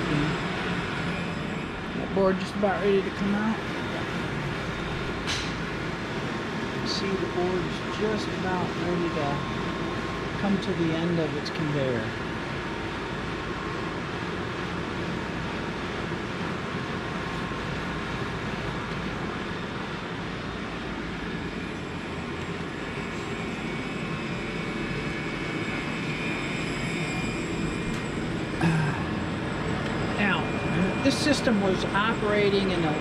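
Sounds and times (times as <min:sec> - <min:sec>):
faint steady tones: 0:00.0 - 0:33.0.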